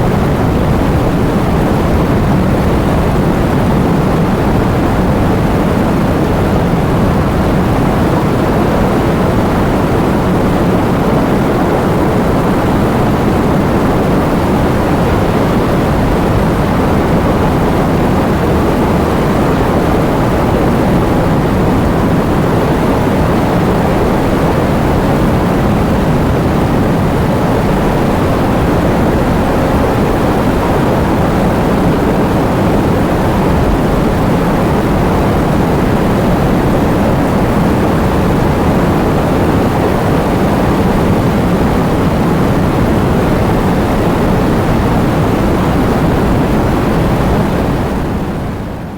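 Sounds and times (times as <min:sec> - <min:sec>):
strong wind: 0:00.0 - 0:48.9.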